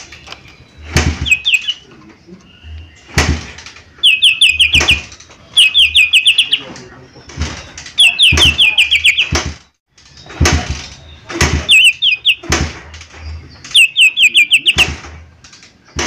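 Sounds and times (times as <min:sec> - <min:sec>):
bird calling sharp notes: 0:00.0 - 0:09.6, 0:10.3 - 0:15.1.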